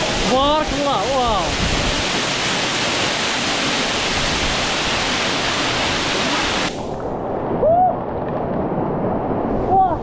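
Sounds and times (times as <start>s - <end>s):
waterfall rushing: 0.0s - 8.3s.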